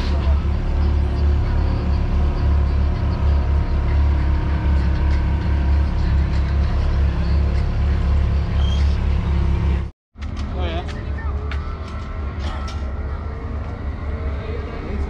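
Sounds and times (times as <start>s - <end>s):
heavy machine engine rumbling: 0.0s - 15.0s.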